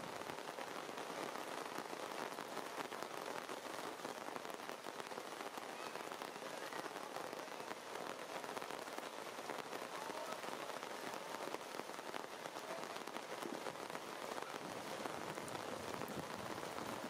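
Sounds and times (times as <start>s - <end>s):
rain falling through foliage: 0.0s - 17.0s.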